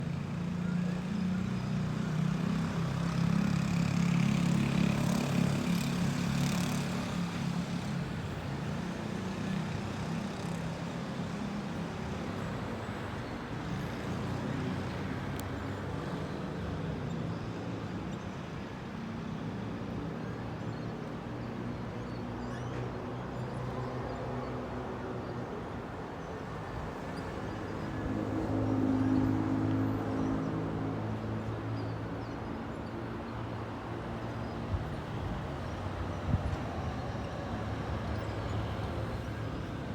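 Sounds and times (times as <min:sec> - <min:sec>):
road traffic hum: 0:00.0 - 0:39.9.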